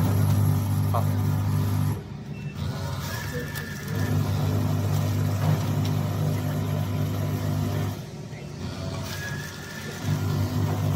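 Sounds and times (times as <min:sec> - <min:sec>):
packing machine humming: 0:00.0 - 0:10.9.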